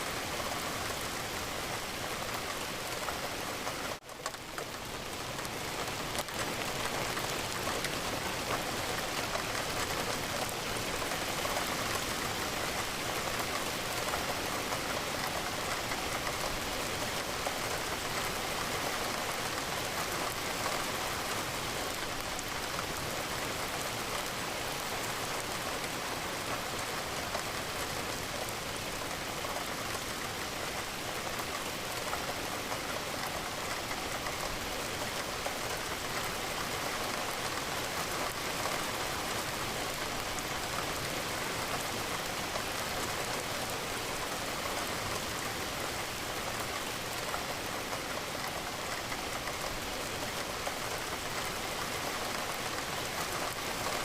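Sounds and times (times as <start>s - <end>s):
rain against a window: 0.0s - 54.0s.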